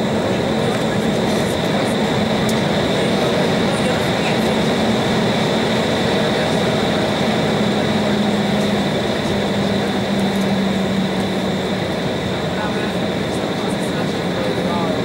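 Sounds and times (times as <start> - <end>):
jet airliner cabin noise taxiing: 0.0 - 15.0.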